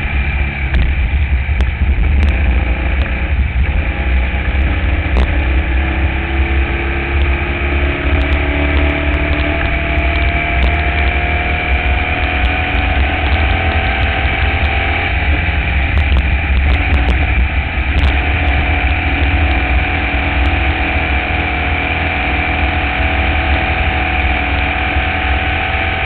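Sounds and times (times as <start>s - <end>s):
heavy low rumble: 0.0s - 25.6s
race car engine accelerating: 1.9s - 26.0s.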